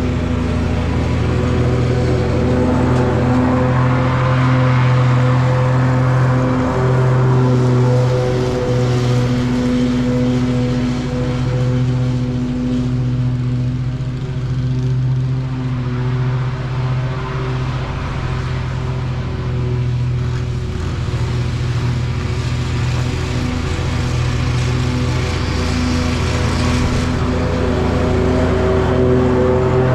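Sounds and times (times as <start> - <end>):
lawn mower engine running: 0.0 - 29.9.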